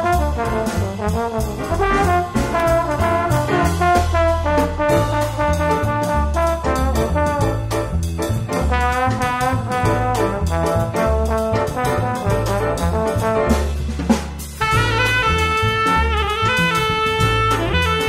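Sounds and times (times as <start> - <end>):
brass music: 0.0 - 18.0.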